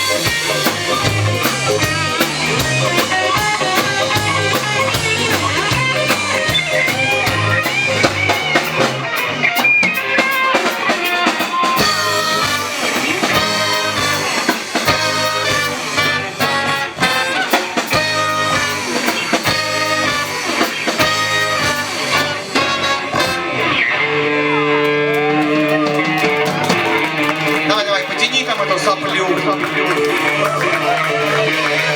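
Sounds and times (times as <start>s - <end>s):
drums: 0.0s - 31.9s
electric guitar chords: 0.0s - 31.9s.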